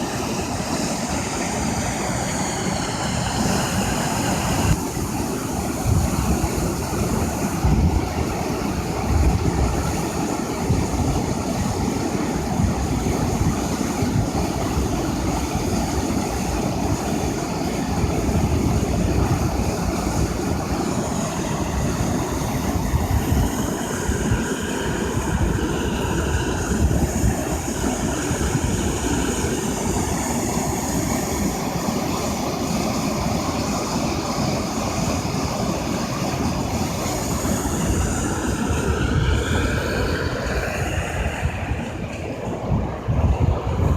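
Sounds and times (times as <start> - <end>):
water rushing over rock: 0.0 - 43.9.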